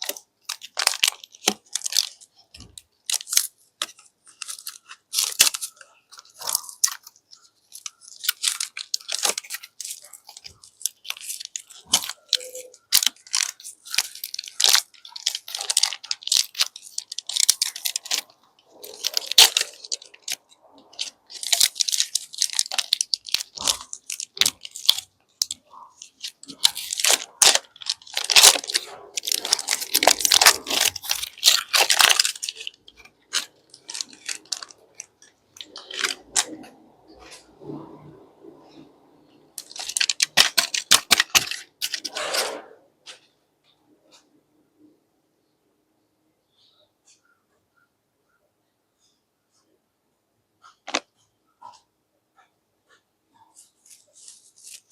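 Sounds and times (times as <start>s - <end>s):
plastic wrappers crinkling: 0.0s - 38.8s, 39.5s - 42.6s, 50.6s - 51.8s, 53.4s - 54.9s.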